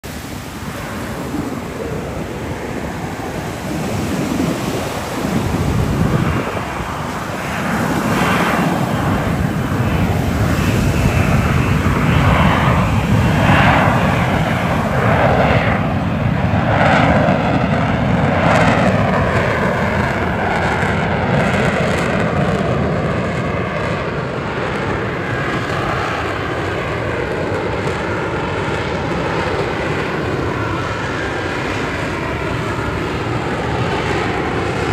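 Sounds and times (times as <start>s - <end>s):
jet engine roaring: 0.0s - 34.9s.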